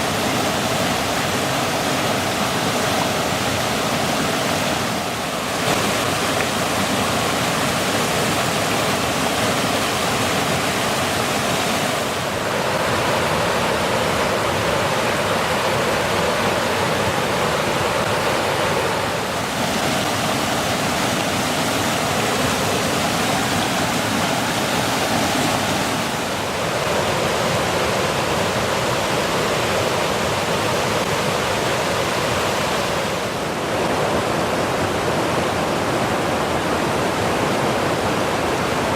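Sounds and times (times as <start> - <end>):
water rushing down cascade: 0.0 - 38.9.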